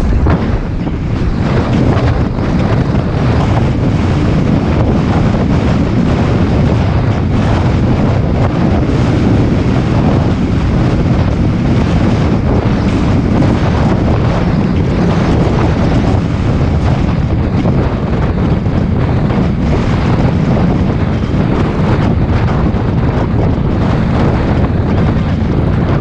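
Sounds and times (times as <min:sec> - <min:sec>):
bus engine: 0:00.0 - 0:26.0
road noise: 0:00.0 - 0:26.0
wind on microphone: 0:00.0 - 0:26.0.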